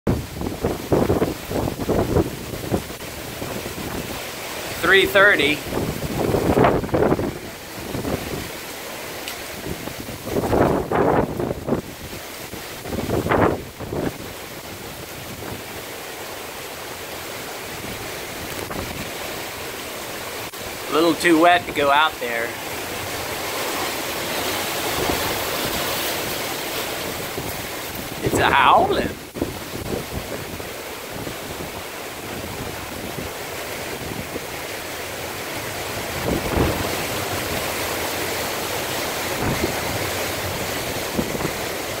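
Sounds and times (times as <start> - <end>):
wind gusts buffeting microphone: 0.1 - 16.3, 17.0 - 42.0
heavy rain: 0.1 - 42.0
wind howling: 0.1 - 42.0.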